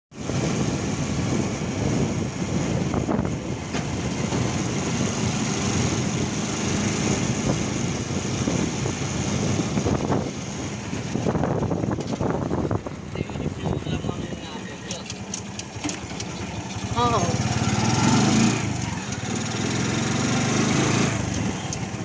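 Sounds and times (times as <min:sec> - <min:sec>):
road noise: 0:00.1 - 0:22.0
vehicle engine: 0:00.1 - 0:22.0
wind buffeting microphone: 0:00.2 - 0:22.0.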